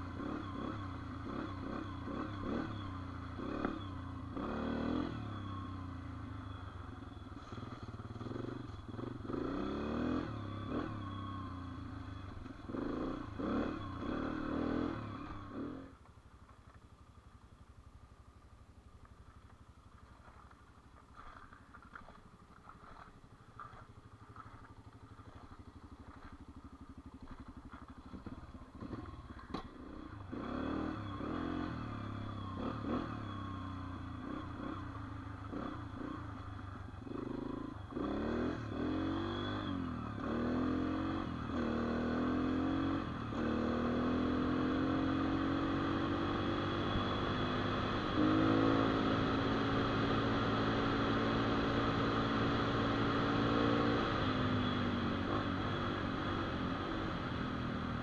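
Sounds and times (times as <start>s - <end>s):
dirt bike engine: 0.0s - 58.0s.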